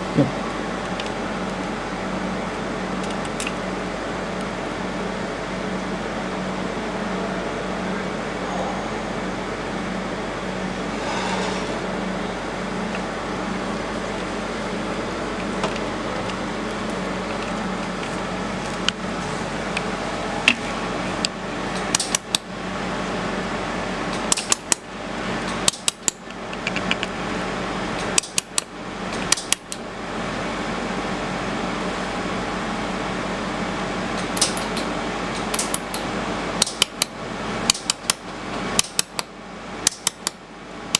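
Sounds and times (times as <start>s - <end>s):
cooling fan humming: 0.0s - 40.9s.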